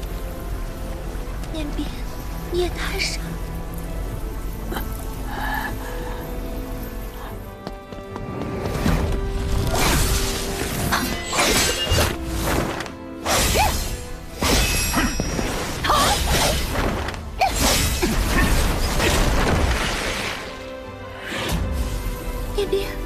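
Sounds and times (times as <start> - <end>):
dramatic background music: 0.0 - 23.0.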